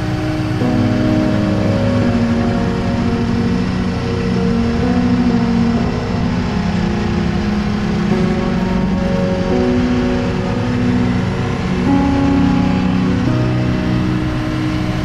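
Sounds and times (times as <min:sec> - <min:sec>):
road noise: 0:00.0 - 0:15.0
wind: 0:00.0 - 0:15.0.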